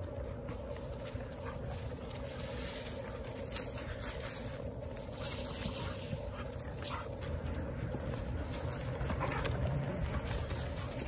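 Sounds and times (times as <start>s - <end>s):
paws rustling dry leaves: 0.0s - 11.0s
steady low rumble: 0.0s - 11.0s.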